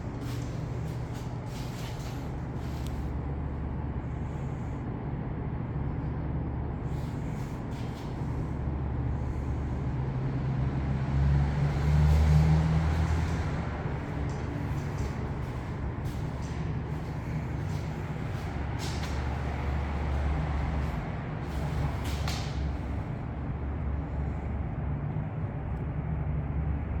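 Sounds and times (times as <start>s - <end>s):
low machine rumble: 0.0s - 27.0s.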